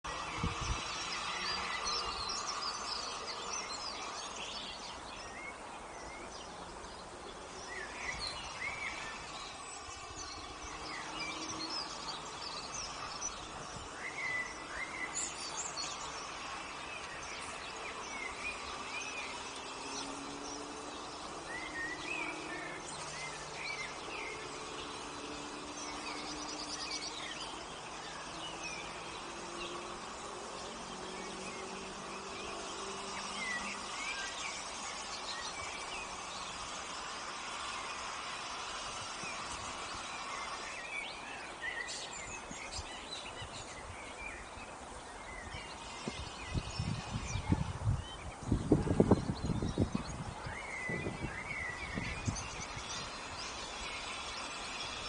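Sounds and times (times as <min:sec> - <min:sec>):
songbirds chirping: 0:00.0 - 0:55.0
steady background hiss: 0:00.1 - 0:55.0.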